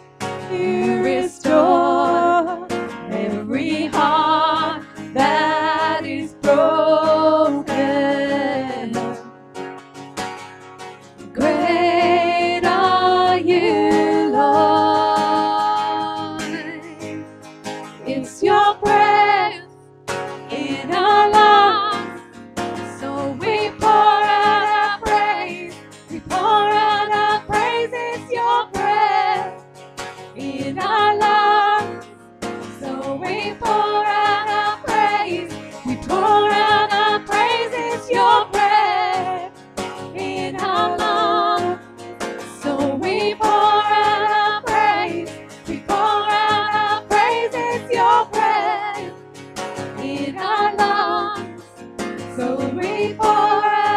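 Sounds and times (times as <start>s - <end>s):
strummed acoustic guitar: 0.0s - 53.9s
women singing worship song: 0.4s - 9.2s, 11.4s - 17.0s, 18.0s - 19.7s, 20.5s - 22.2s, 22.8s - 29.6s, 30.4s - 32.0s, 32.6s - 41.8s, 42.5s - 49.2s, 49.9s - 51.6s, 52.2s - 53.9s.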